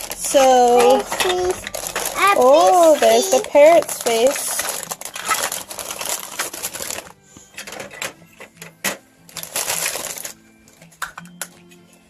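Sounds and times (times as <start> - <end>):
plastic pieces rattling and clicking: 0.0 - 10.4.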